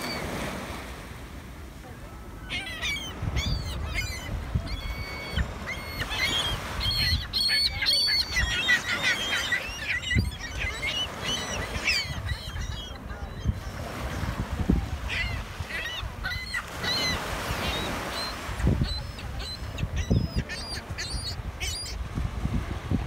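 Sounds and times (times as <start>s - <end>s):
gulls calling: 0.0s - 0.7s, 2.0s - 22.1s.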